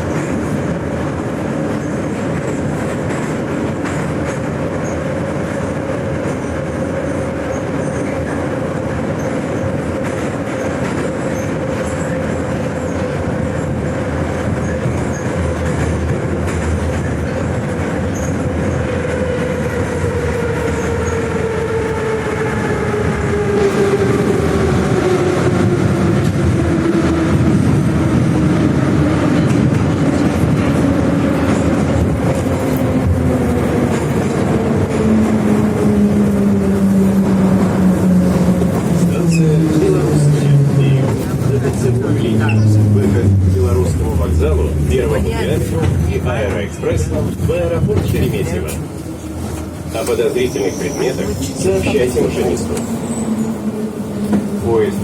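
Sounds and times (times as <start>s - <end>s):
metro train wheel noise: 0.0s - 55.0s.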